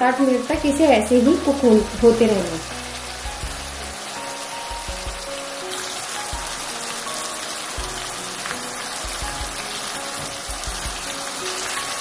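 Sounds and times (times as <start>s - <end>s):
chicken sizzling in oil: 0.0s - 12.0s
soft background music: 0.0s - 12.0s.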